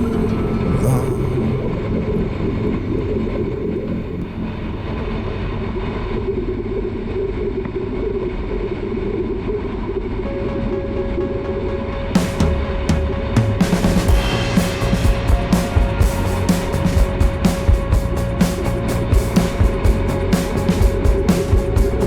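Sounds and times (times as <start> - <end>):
steady tone: 0.0 - 22.0.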